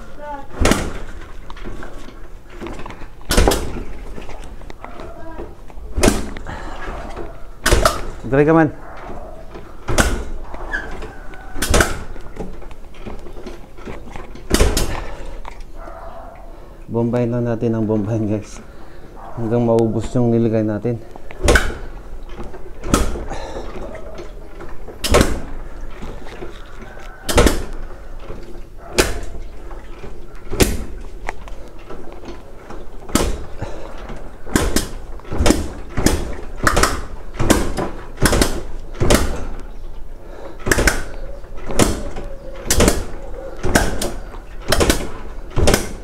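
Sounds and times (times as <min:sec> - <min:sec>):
motorcycle kick-starter clunks: 0:00.0 - 0:15.7, 0:21.2 - 0:46.0.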